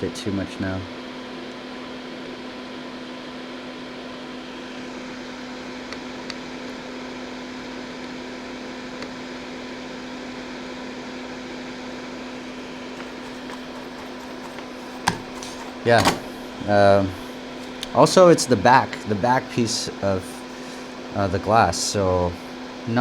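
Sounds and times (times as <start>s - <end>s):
steady electric hum: 0.0s - 23.0s.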